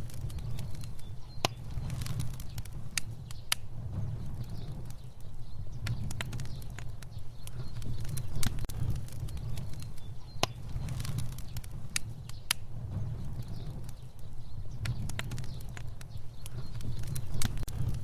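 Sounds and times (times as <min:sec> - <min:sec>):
fire crackling and popping: 0:00.0 - 0:18.0
low rumble of flame: 0:00.0 - 0:18.0.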